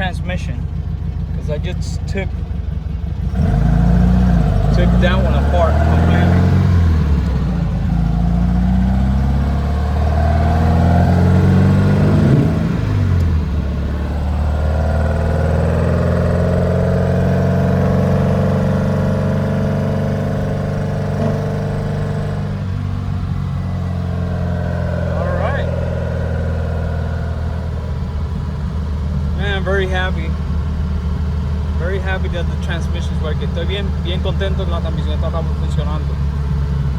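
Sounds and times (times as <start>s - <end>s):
car engine pulling on the road: 0.0s - 36.9s.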